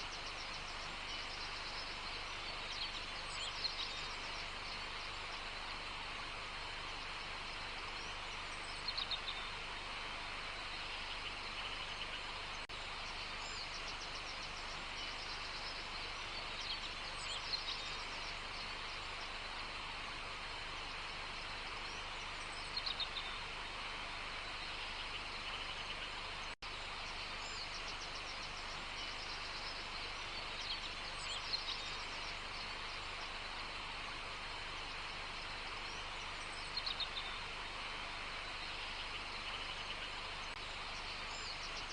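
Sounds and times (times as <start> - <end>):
birds singing: 0.0 - 41.9
outdoor background hiss: 0.0 - 41.9.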